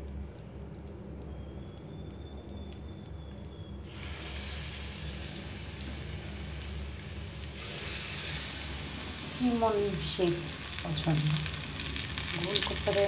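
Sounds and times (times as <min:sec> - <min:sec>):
pakoras frying in hot oil: 0:00.0 - 0:13.0.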